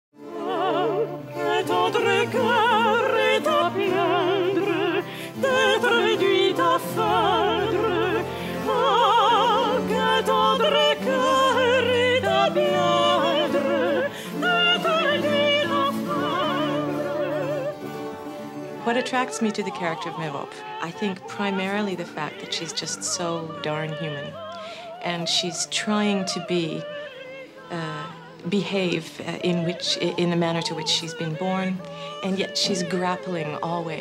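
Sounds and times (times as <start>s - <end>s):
instrumental accompaniment: 0.2s - 34.0s
women singing opera duet: 0.2s - 34.0s.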